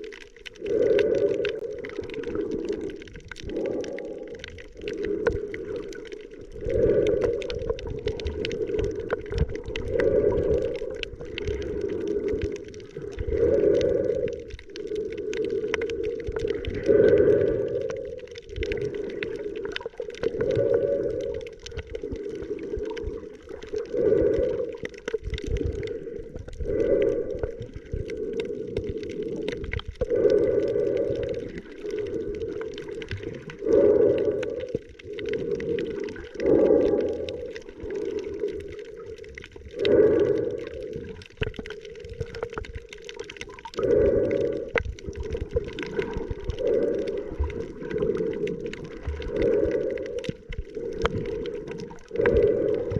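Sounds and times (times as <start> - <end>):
underwater sloshing and gurgling: 0.0 - 52.9.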